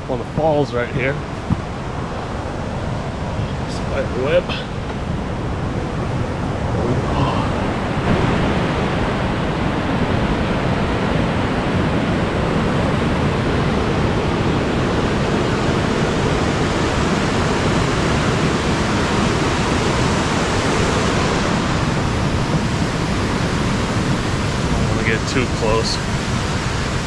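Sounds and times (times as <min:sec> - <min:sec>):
waterfall rushing: 0:01.0 - 0:27.0.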